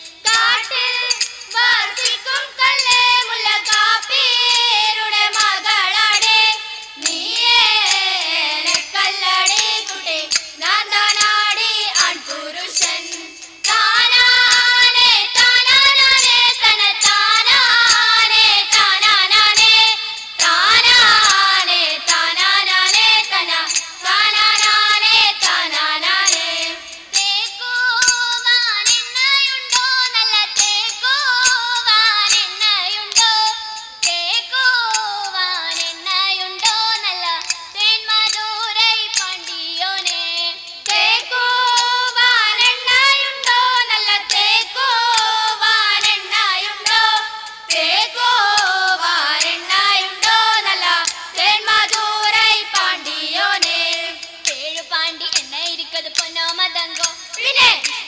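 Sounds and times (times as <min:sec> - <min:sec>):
girls singing into microphones: 0:00.0 - 0:58.0
rhythmic hand claps: 0:00.0 - 0:58.0.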